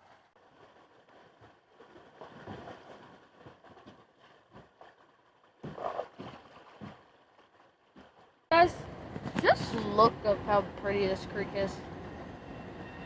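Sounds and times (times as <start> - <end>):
water splashing around kayak: 0.0 - 10.6.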